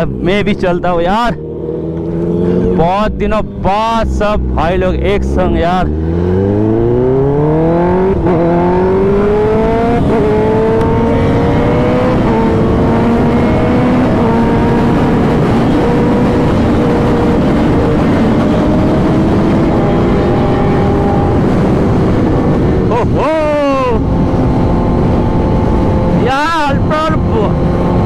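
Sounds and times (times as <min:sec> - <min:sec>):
motorcycle engine accelerating: 0:00.0 - 0:28.0
wind rush on microphone: 0:00.0 - 0:28.0.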